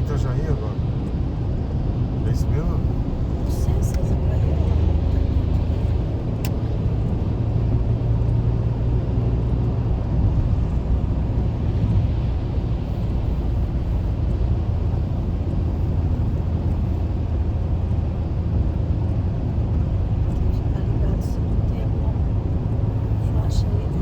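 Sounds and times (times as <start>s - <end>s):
car engine and tyres drone: 0.0s - 24.0s.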